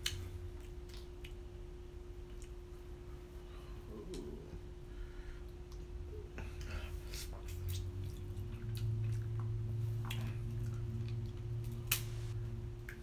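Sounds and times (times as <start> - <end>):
person chewing with lip-smacking: 0.0 - 4.6, 5.4 - 12.0
steady low hum: 0.0 - 13.0.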